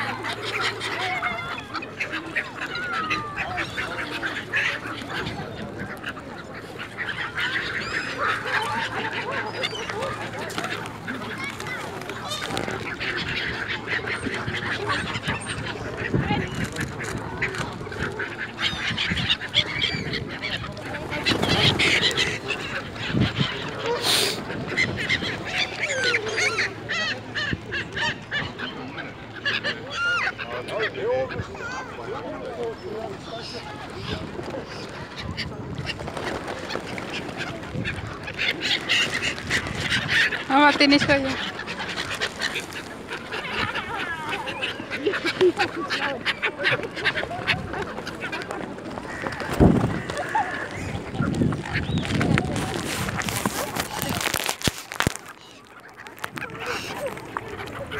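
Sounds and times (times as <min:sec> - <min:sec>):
gulls calling: 0:00.0 - 0:57.9.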